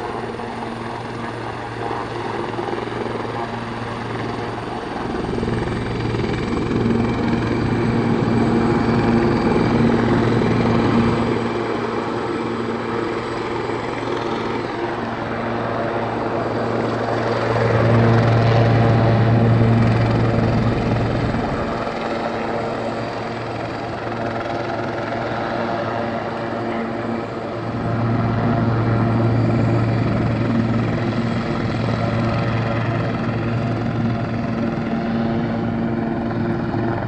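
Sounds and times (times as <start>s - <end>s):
helicopter rotor hum: 0.0s - 37.0s
helicopter turbine whine: 0.0s - 37.0s.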